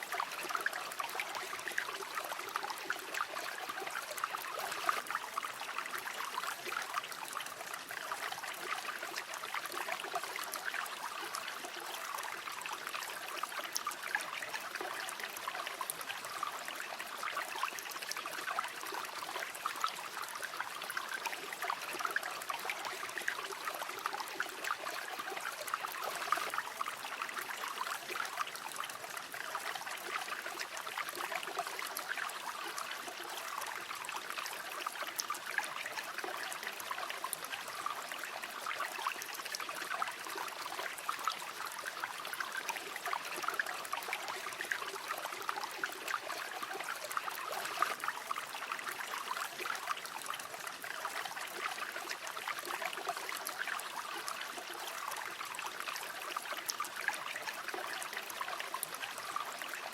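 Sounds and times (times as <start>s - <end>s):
shallow river water flowing: 0.0s - 59.9s.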